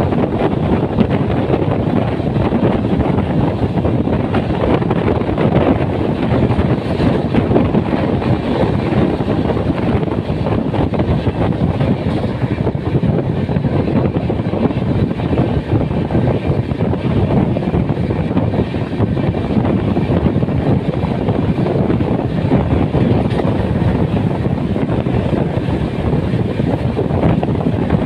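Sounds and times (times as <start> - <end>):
rushing wind: 0.0 - 28.0
train wheels rumbling on rail: 0.0 - 28.0.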